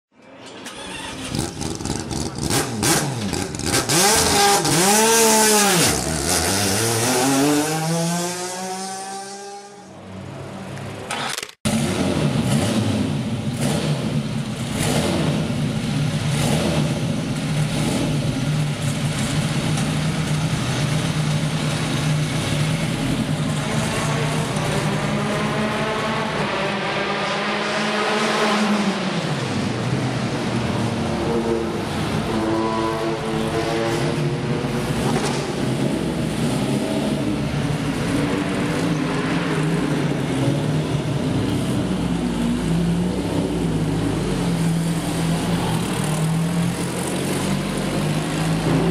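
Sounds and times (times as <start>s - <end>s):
racing engine revving and idling: 0.7s - 9.9s, 11.7s - 48.9s.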